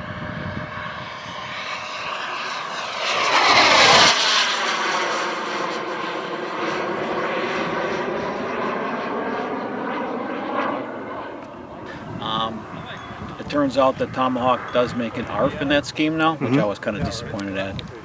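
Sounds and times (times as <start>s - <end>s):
jet turbine whine flying past: 0.0s - 18.0s.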